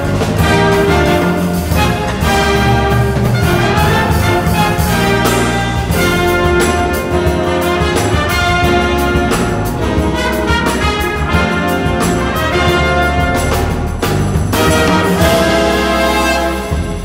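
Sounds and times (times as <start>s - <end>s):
big band playing jazz: 0.0s - 17.0s.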